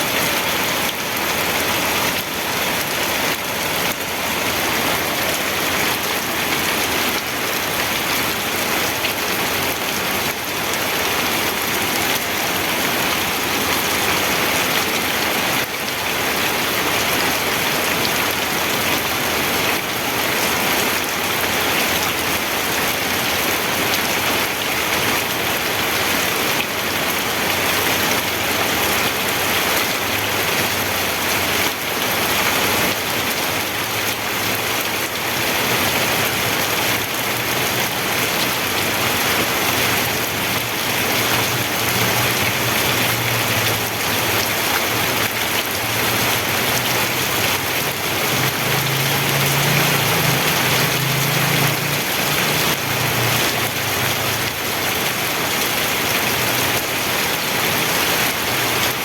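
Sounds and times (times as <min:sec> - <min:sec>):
dense rain pattering: 0:00.0 - 0:59.0.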